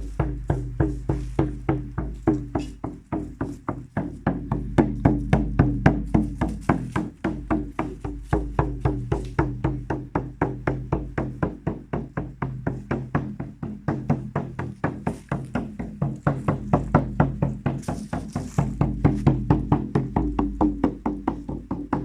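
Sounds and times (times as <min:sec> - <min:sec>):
steady even drumming: 0:00.0 - 0:22.0.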